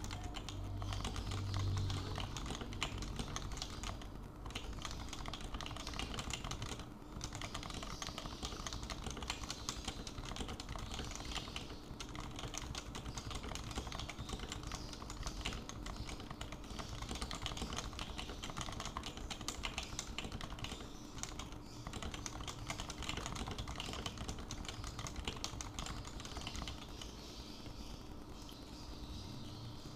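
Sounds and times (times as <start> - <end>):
fast keyboard typing: 0.0 - 27.9.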